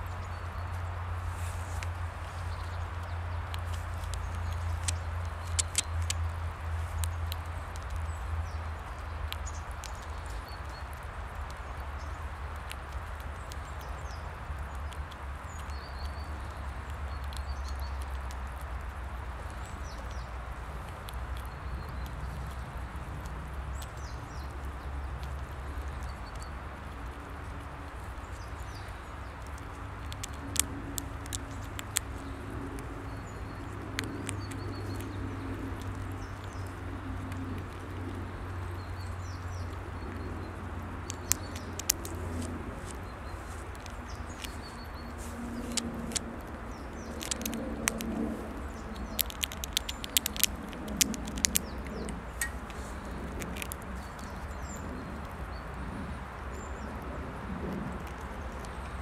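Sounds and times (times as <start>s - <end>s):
squirrel teeth clicking on shell: 1.8s - 59.0s.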